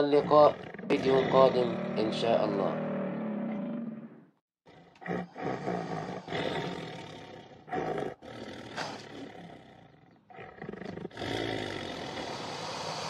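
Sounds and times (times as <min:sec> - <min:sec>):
big cat roaring: 0:00.0 - 0:13.0.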